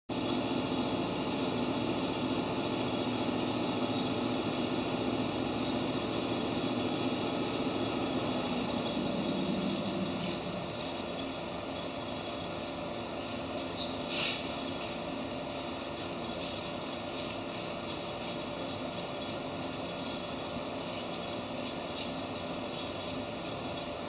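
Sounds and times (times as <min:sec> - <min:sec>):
train machinery hum and whir: 0:00.1 - 0:24.0.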